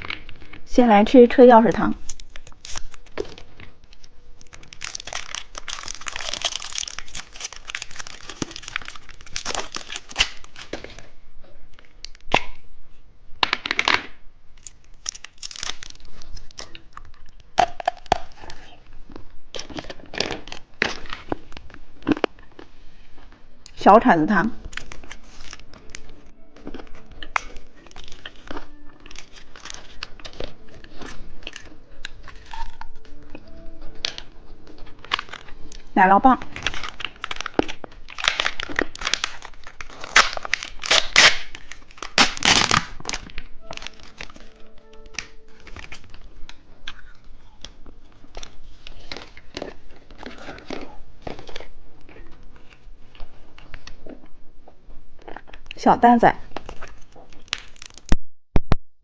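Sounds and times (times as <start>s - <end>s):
candy wrapper crinkling: 0.0s - 0.7s, 1.9s - 11.1s, 13.4s - 23.8s, 24.5s - 54.3s, 56.4s - 58.2s.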